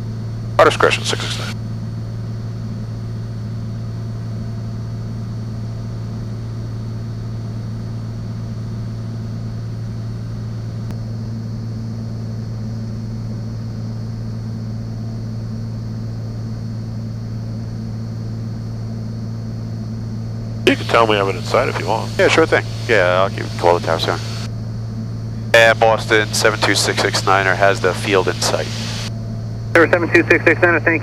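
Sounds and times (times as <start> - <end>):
airplane engine droning in cabin: 0.0 - 31.0.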